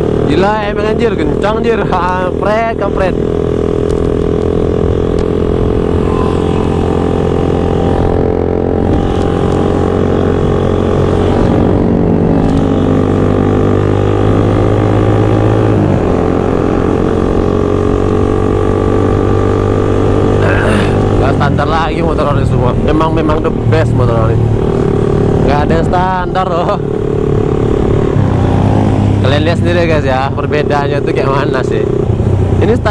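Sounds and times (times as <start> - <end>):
motorcycle engines running: 0.0 - 32.9.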